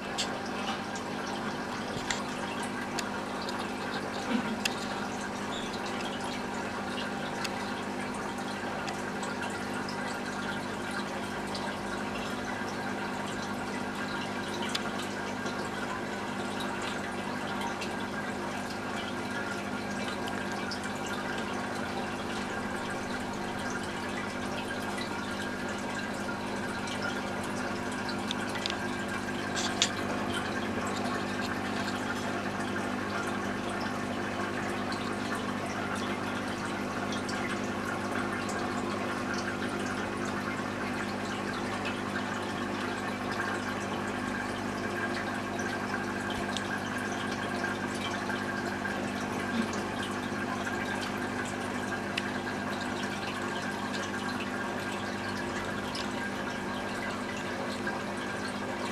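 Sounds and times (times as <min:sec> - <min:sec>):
filter pump hum: 0:00.0 - 0:58.9
water flowing: 0:00.0 - 0:58.9.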